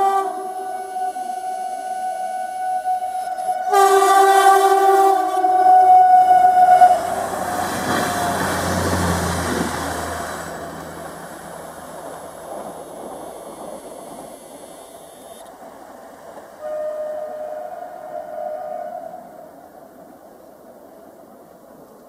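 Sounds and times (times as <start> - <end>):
train horn: 0.0 - 14.3, 16.6 - 20.1
train rushing past: 0.0 - 22.0.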